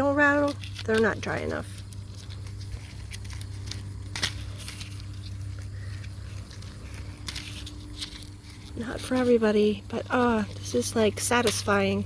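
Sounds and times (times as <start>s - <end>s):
dried bean pods crackling: 0.0s - 12.0s
low hum: 0.0s - 12.0s.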